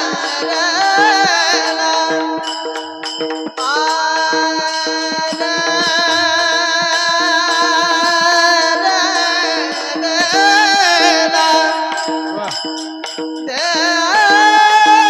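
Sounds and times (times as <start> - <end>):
man singing a long high note: 0.0 - 15.0.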